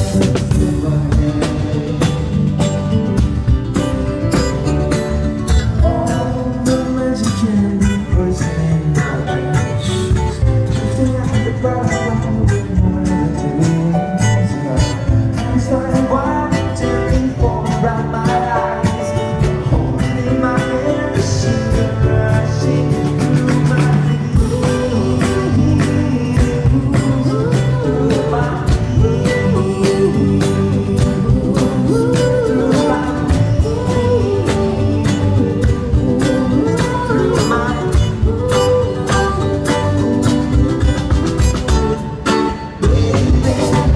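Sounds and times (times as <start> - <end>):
person singing: 0.0 - 2.8, 5.5 - 43.9
country band with guitars: 0.0 - 43.9.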